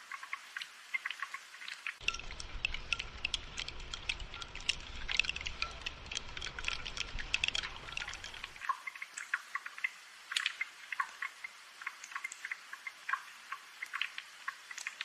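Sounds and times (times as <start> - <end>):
rain dripping and pattering: 0.0 - 15.0.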